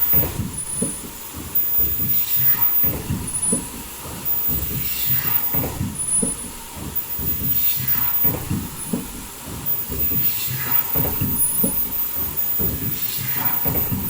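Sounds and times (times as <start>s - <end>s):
machine mechanical clatter: 0.0s - 14.0s.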